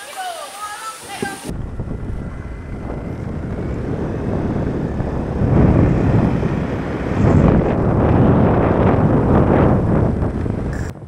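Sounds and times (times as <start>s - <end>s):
road noise: 0.8s - 11.0s
wind buffeting microphone: 1.0s - 11.0s
motorbike engine: 1.5s - 11.0s.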